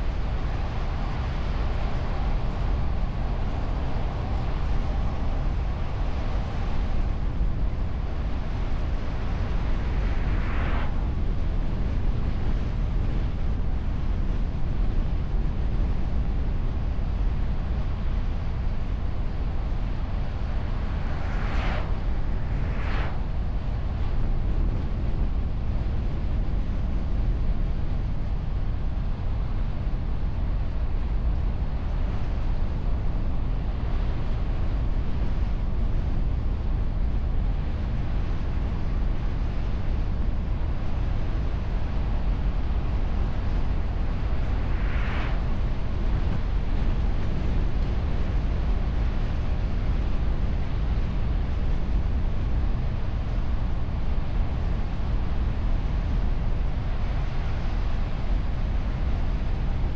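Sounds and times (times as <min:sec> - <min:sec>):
car wind and road noise: 0:00.0 - 0:59.9.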